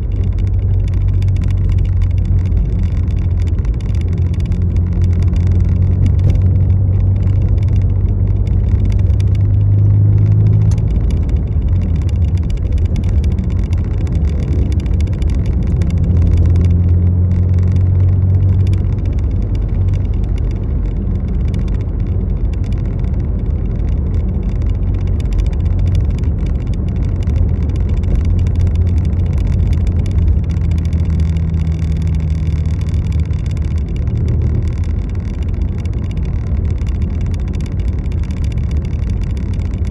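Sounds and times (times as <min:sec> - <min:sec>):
rain ticking: 0:00.0 - 0:39.9
vehicle engine hum: 0:00.0 - 0:39.9.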